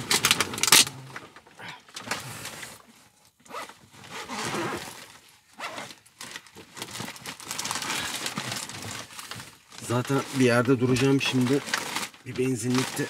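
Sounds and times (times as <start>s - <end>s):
rustling and scraping: 0.0s - 13.0s.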